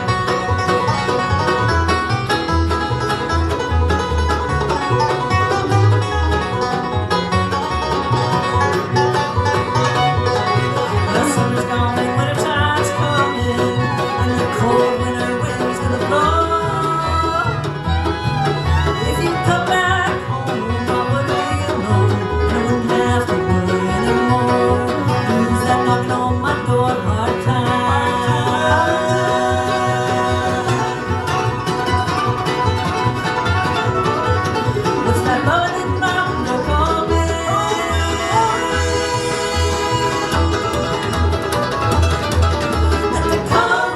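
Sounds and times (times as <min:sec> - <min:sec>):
banjo: 0:00.0 - 0:43.9
guitar: 0:00.0 - 0:43.9
upright bass line: 0:00.0 - 0:43.9.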